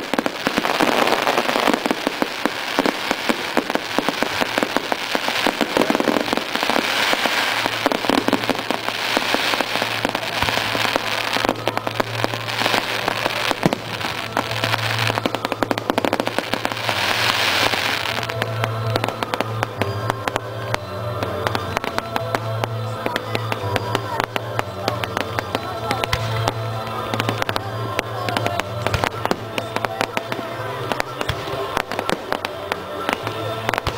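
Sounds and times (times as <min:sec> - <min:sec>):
fireworks crackling and popping: 0:00.0 - 0:33.9
music playing: 0:00.0 - 0:33.9.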